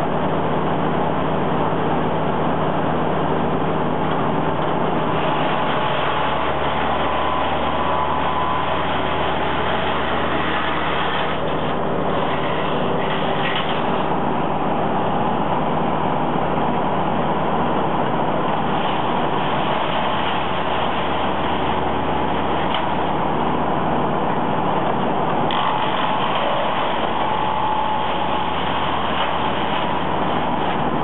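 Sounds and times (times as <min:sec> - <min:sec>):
gas engine running: 0:00.0 - 0:31.0
wood chipper chipping brush: 0:00.0 - 0:31.0.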